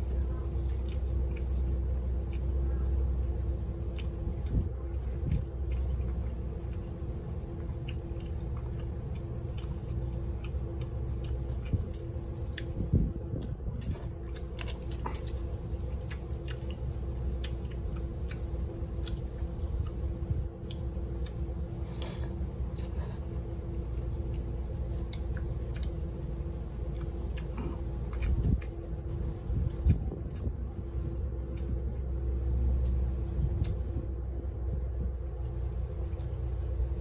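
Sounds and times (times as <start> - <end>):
person chewing food: 0.0 - 37.0
steady low hum: 0.0 - 37.0.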